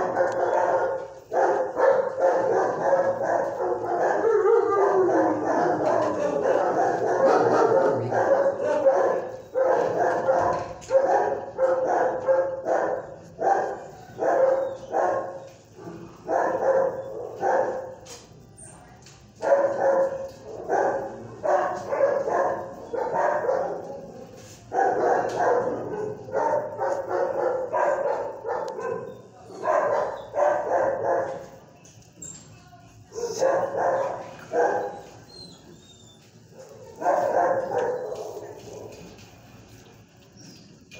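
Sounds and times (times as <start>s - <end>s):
dog barking: 0.0s - 18.0s, 19.4s - 31.6s, 33.1s - 35.3s, 36.5s - 39.1s.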